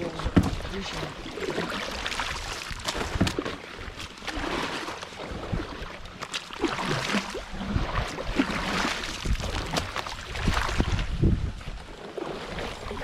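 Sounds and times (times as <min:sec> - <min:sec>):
paddle splashing water: 0:00.0 - 0:13.0.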